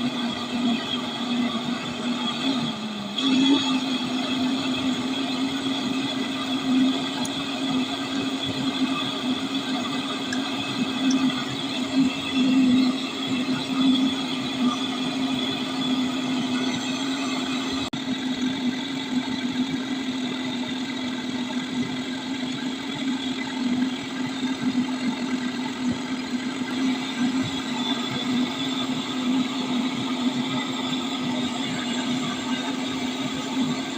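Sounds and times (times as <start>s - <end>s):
motor humming: 0.0s - 33.9s.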